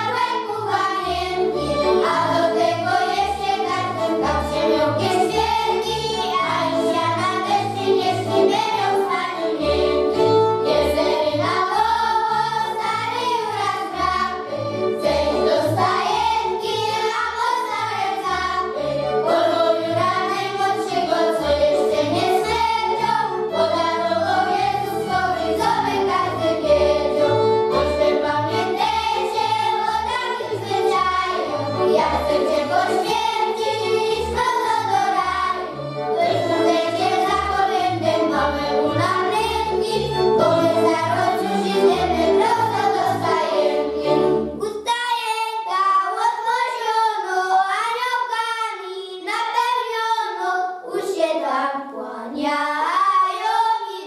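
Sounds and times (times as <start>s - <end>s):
violins: 0.0s - 44.7s
children's choir singing: 0.0s - 54.0s.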